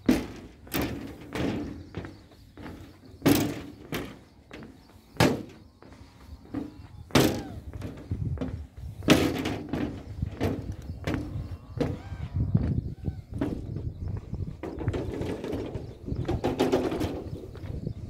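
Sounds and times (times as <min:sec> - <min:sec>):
footsteps on railway track: 0:00.0 - 0:18.0.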